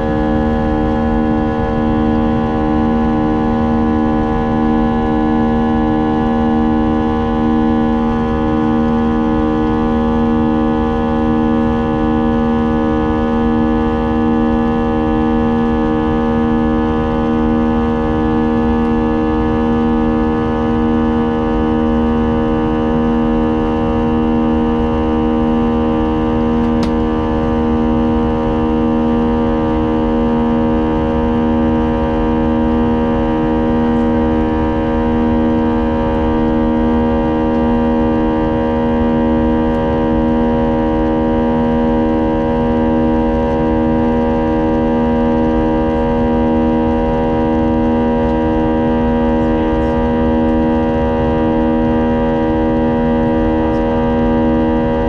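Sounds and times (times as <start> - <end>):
jet engines humming in cabin: 0.0 - 55.0.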